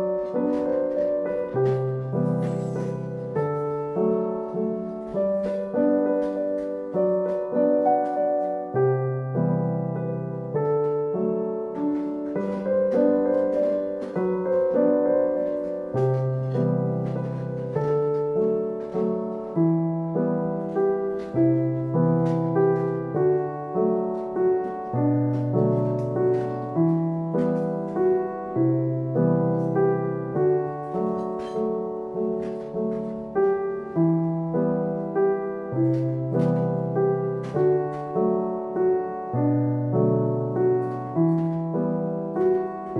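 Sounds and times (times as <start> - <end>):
gentle piano music: 0.0 - 42.9.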